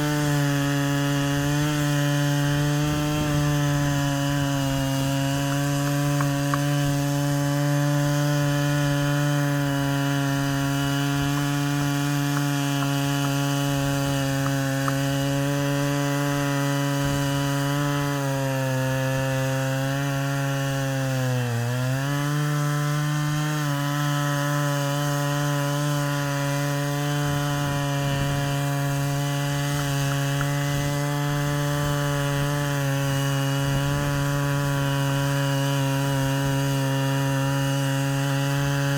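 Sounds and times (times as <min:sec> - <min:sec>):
chainsaw cutting wood at full throttle: 0:00.0 - 0:38.9.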